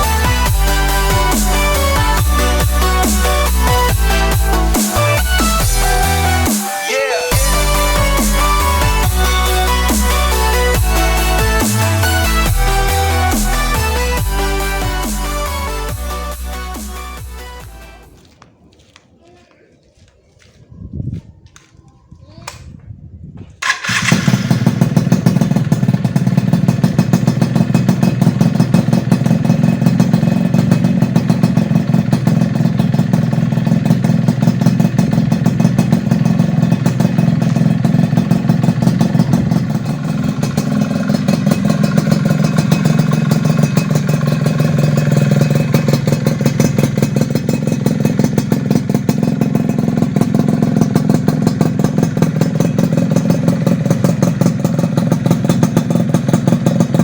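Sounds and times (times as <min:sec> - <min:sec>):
two-stroke motorcycle engine idling: 0:00.0 - 0:06.6, 0:07.3 - 0:17.9, 0:23.6 - 0:57.0.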